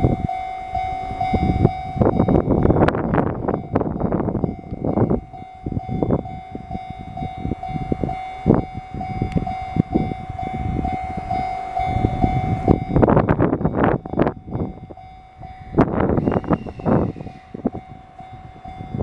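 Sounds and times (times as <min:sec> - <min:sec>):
crossing warning bell ringing: 0:00.0 - 0:19.0
heavy train rumbling: 0:00.0 - 0:19.0.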